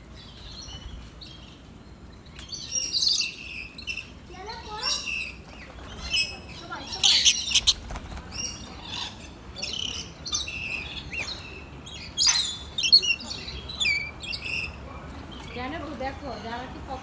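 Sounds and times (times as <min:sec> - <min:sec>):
lorikeets screeching and chirping: 0:02.4 - 0:17.0.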